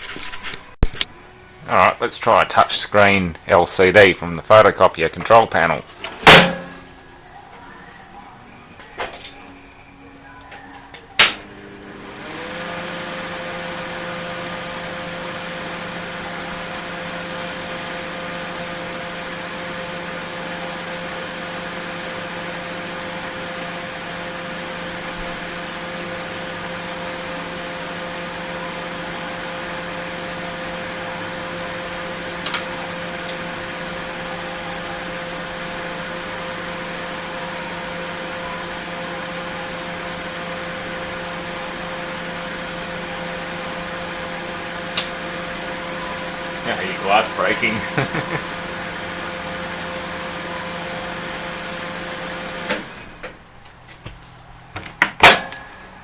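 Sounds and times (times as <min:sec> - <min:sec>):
microwave oven humming: 0:00.6 - 0:02.6, 0:06.0 - 0:56.0.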